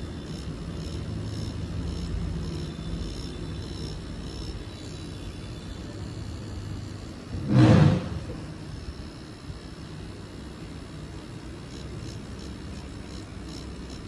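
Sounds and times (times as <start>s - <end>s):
tattoo machine humming: 0.0s - 14.0s.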